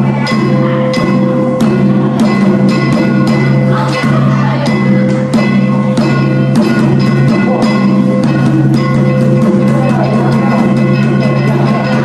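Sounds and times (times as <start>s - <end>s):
drum strikes: 0.0s - 12.0s
wood block strikes: 0.0s - 12.0s.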